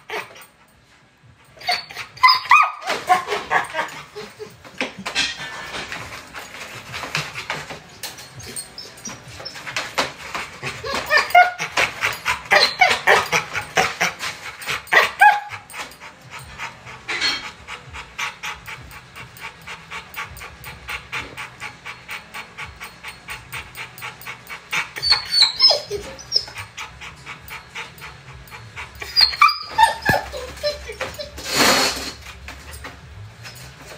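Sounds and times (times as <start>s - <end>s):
dog whining: 0.0s - 0.7s, 1.4s - 33.9s
dog panting rapidly: 5.4s - 33.8s.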